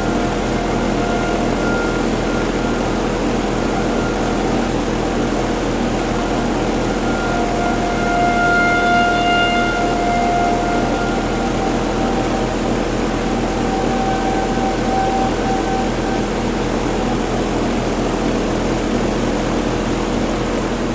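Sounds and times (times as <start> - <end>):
loud steady background rumble: 0.0 - 20.9
outdoor warning sirens: 0.0 - 20.9.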